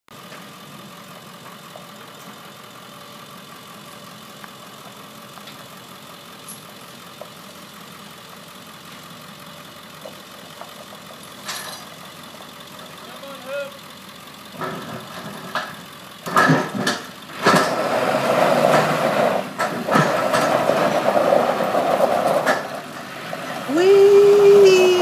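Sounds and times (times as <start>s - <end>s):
diesel engine idling: 0.1s - 25.0s.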